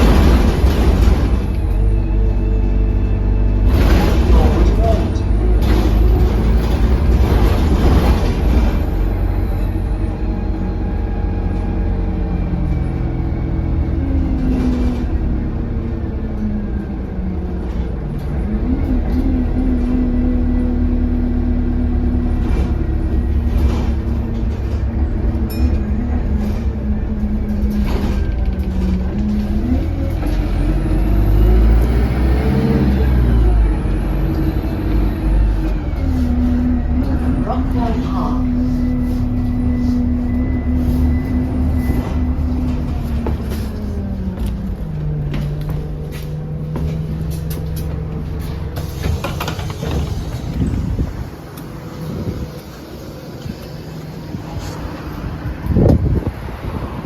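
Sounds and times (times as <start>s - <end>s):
bus engine running: 0.0s - 57.0s.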